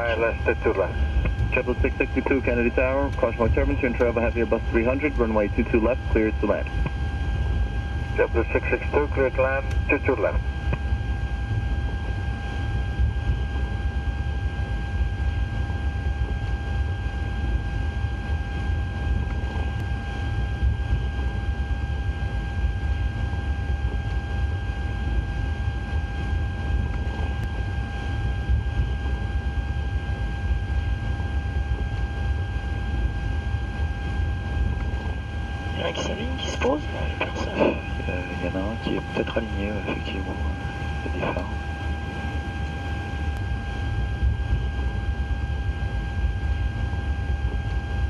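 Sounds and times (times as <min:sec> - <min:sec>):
high hum: 0:00.0 - 0:48.0.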